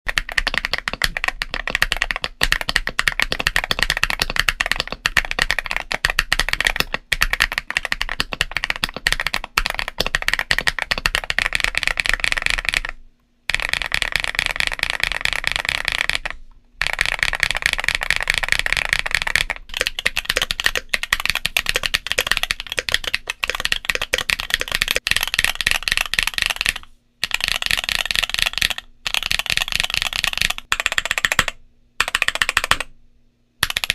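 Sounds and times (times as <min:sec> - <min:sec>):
mechanical keyboard typing: 0:00.1 - 0:32.9, 0:33.6 - 0:33.9.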